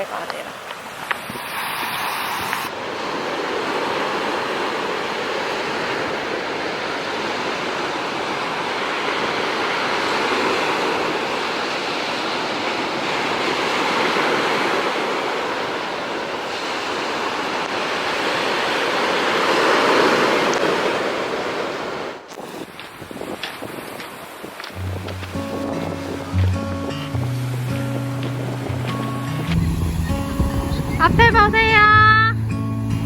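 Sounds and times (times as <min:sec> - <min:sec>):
surf washing onto stony beach: 0:00.0 - 0:32.3.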